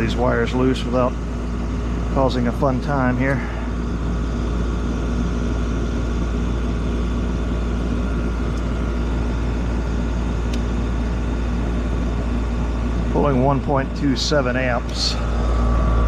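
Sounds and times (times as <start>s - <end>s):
condenser fan rushing: 0.0s - 16.0s
heat pump humming: 0.0s - 16.0s.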